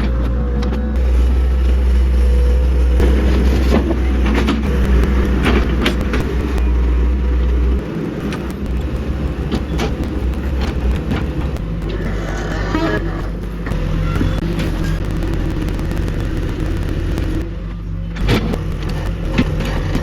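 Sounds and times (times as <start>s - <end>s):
excavator engine rumble: 0.0s - 20.0s
knocks and clanks: 2.4s - 17.5s, 18.2s - 20.0s.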